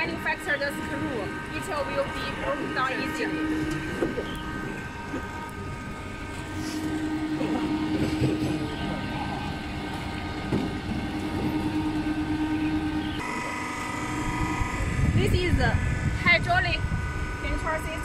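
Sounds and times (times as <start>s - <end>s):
oil press machine droning: 0.0s - 18.0s.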